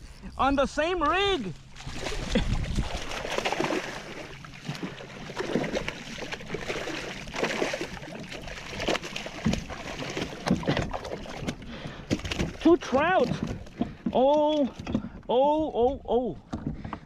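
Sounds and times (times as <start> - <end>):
water splashing and sloshing: 0.8 - 17.0.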